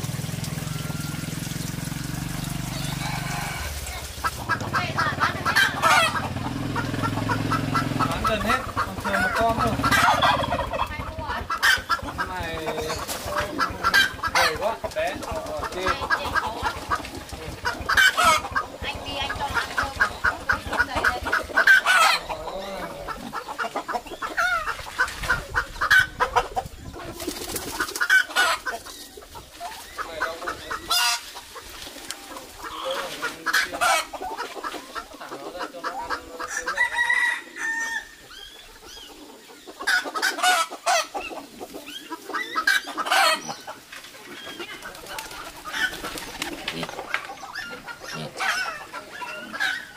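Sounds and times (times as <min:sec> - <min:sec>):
chickens clucking and squawking: 0:00.0 - 0:49.9.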